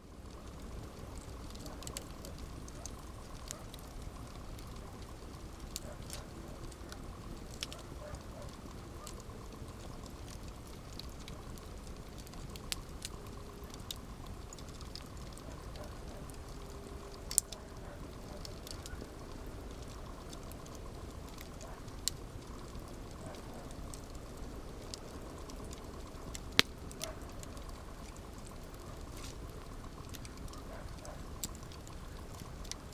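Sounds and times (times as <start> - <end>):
campfire hissing and rumbling: 0.0 - 32.9
wood crackling and popping: 0.0 - 32.9.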